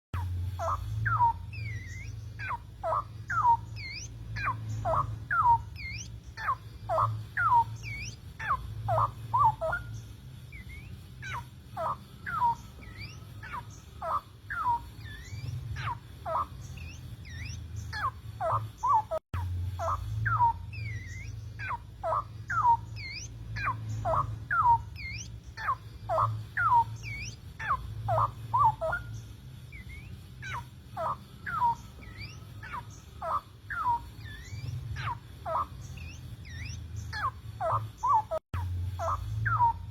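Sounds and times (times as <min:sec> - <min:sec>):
bulbul whistling song: 0:00.1 - 0:39.9
steady low hum: 0:00.1 - 0:39.9.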